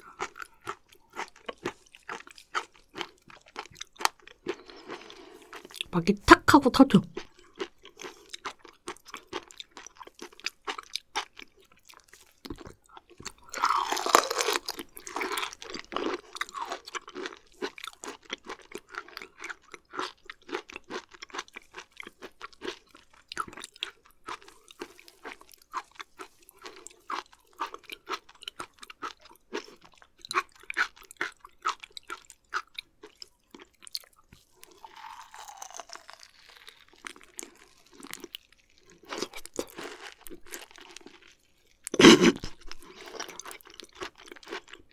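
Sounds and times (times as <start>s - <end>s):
wet crunchy chewing: 0.0s - 5.9s, 7.2s - 44.9s.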